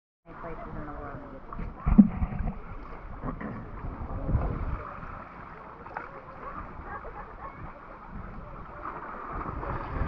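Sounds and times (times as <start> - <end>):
seawater lapping and sloshing: 0.4 - 10.0
wind buffeting microphone: 0.4 - 10.0.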